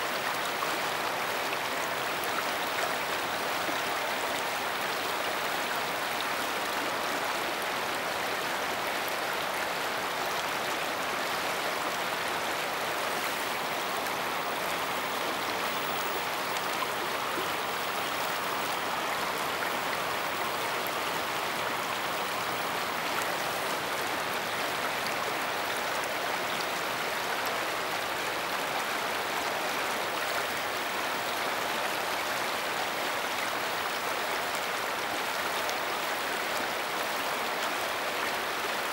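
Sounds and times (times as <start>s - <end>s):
river rushing over rocks: 0.0s - 38.9s.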